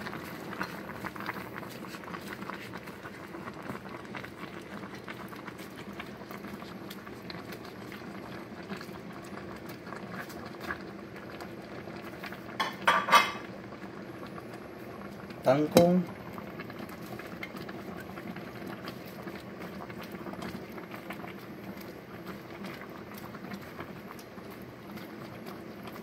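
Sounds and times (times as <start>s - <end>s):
soup simmering and bubbling: 0.0s - 26.0s.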